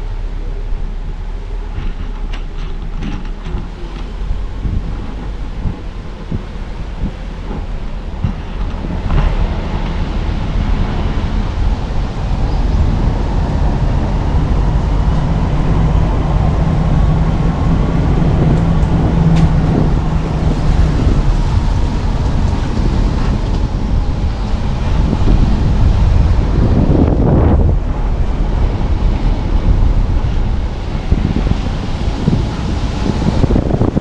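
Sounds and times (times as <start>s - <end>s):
car driving on a road: 0.0s - 34.0s
engine hum: 0.0s - 34.0s.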